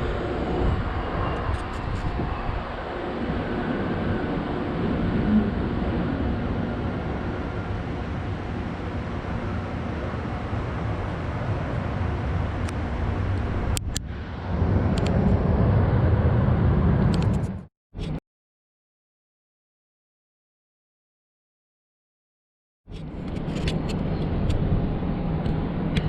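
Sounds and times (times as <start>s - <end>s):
jet airliner rumble: 0.0s - 18.2s, 22.9s - 26.0s.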